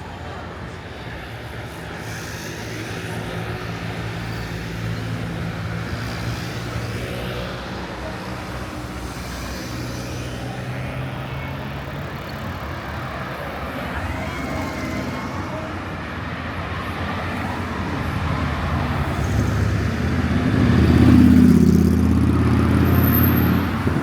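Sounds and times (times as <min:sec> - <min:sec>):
passing traffic: 0:00.0 - 0:24.0
vehicle engine humming: 0:03.0 - 0:24.0.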